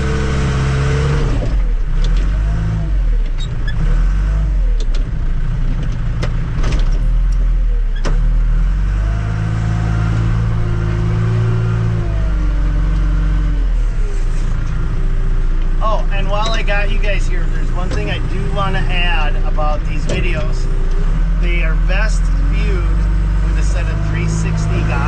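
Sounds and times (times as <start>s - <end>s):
backhoe engine revving: 0.0s - 25.0s.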